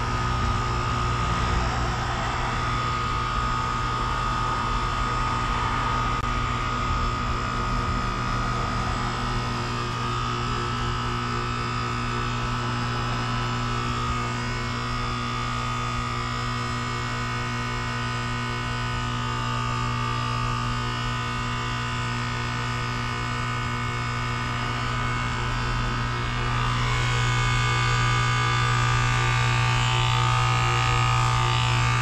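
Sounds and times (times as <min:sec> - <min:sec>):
heat pump compressor hum: 0:00.0 - 0:32.0
wavering whine: 0:00.0 - 0:32.0.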